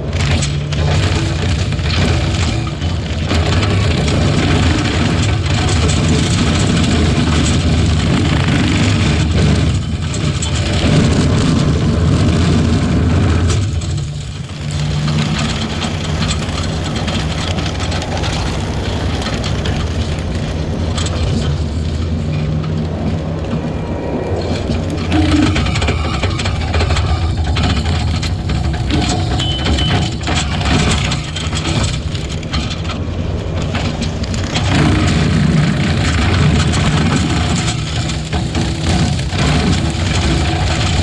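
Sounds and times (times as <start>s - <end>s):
diesel engine running under load: 0.0s - 41.0s.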